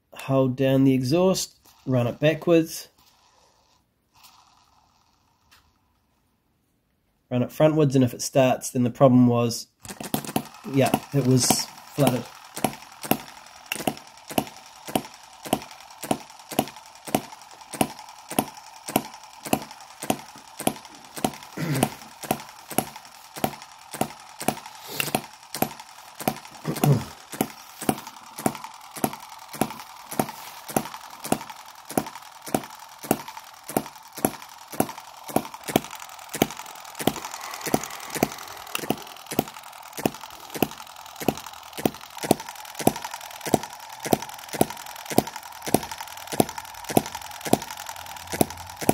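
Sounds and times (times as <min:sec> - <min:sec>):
model engine beating: 0:00.6 - 0:05.7, 0:09.8 - 0:48.9.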